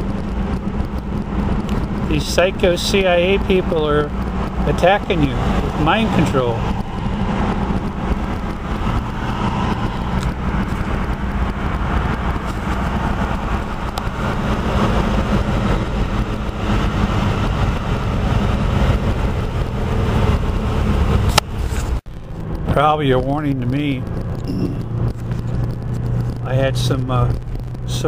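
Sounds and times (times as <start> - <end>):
road and engine rumble in car: 0.0 - 28.0.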